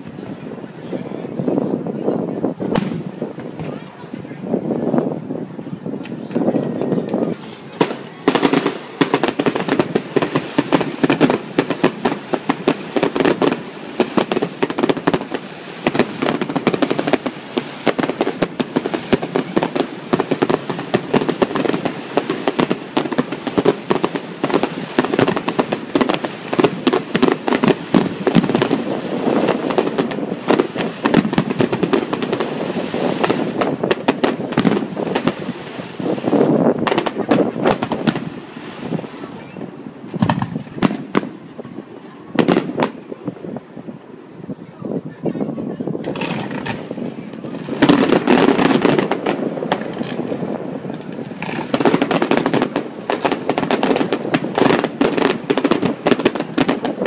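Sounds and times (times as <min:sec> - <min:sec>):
fireworks bursts and crackle: 0:00.0 - 0:57.0.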